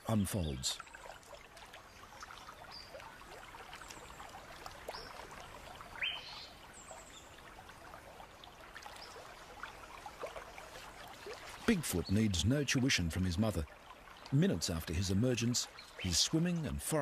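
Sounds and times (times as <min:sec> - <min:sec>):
stream water trickling: 0:00.0 - 0:17.0.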